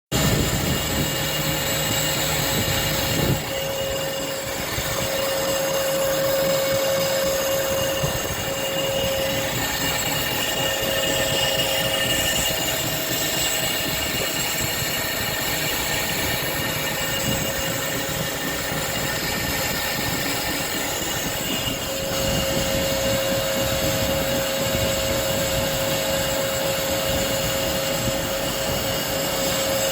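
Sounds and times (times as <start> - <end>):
high squealing whine: 0.1 - 29.9
lathe machining noise: 0.2 - 29.9.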